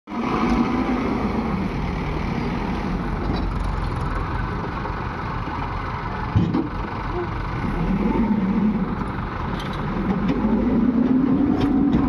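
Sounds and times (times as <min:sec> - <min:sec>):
heavy diesel engines running: 0:00.1 - 0:12.0.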